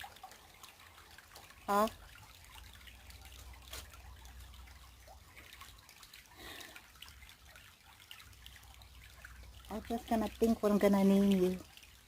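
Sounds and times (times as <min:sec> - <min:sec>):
creek trickling: 0:00.0 - 0:12.0
light water drips: 0:00.0 - 0:12.0.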